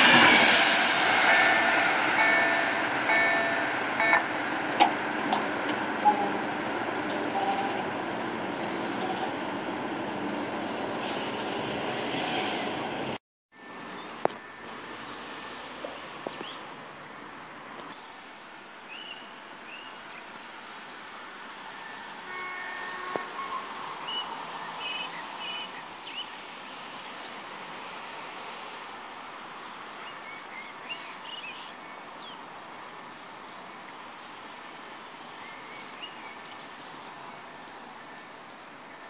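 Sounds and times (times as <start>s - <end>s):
distant train: 0.0s - 39.0s.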